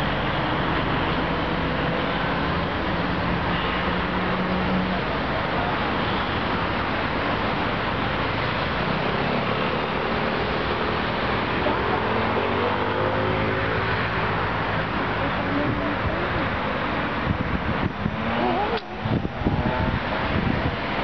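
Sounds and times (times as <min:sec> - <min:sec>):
distant road traffic rush: 0:00.0 - 0:21.0.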